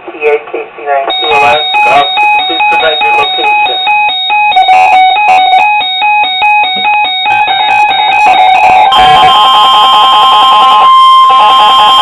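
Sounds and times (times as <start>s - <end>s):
steady high alarm tone: 1.1s - 12.0s
two-pitch alarm beeping: 1.1s - 12.0s.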